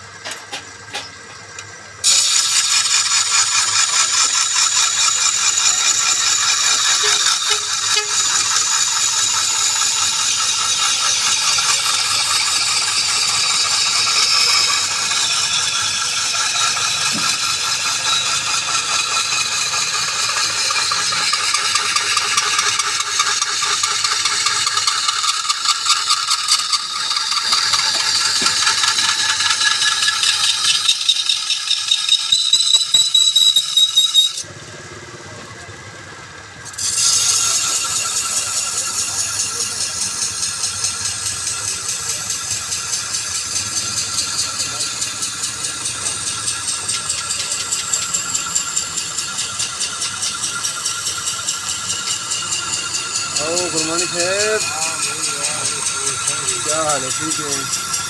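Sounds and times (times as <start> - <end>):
power tool whining on metal: 0.0 - 35.4, 36.3 - 58.0.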